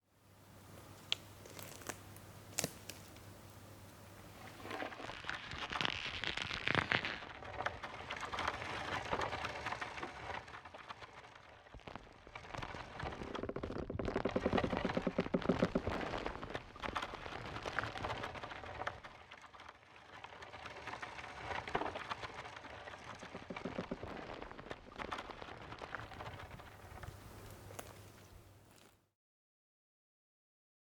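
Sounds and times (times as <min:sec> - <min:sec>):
tree trunk creaking and clicking: 0:00.8 - 0:03.4, 0:04.4 - 0:29.0.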